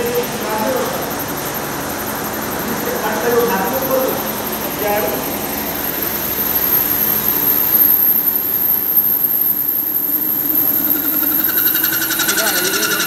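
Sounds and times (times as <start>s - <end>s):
high machine whine: 0.0s - 13.0s
lathe drone and coolant hiss: 0.0s - 13.0s.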